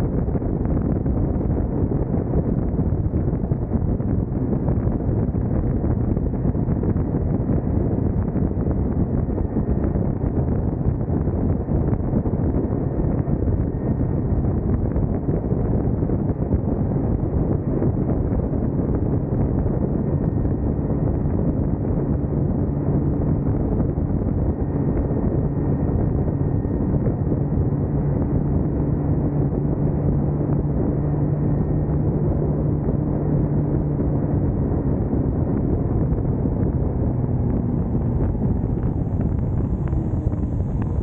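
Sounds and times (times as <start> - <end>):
motorcycle engine humming: 0.0 - 41.0
wind rush on microphone: 0.0 - 41.0.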